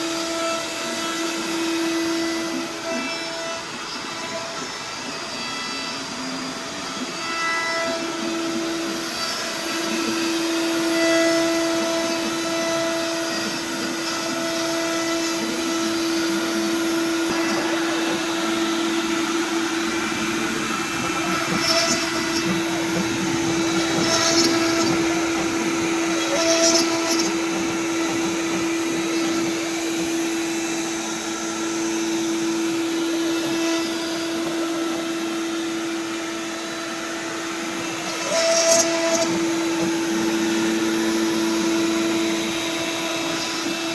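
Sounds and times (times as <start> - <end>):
router spindle whining: 0.0 - 43.9
harsh cutting bursts: 7.9 - 43.9.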